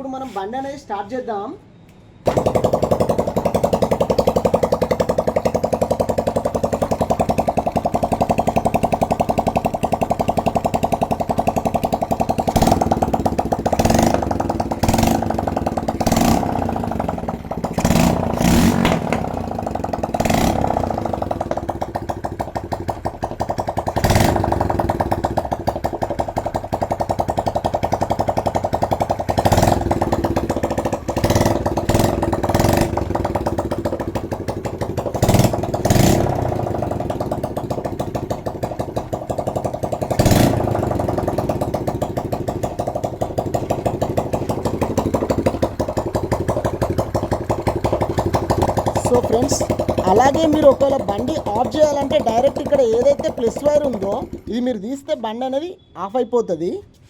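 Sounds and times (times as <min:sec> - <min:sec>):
motorcycle engine running: 0:02.2 - 0:55.9.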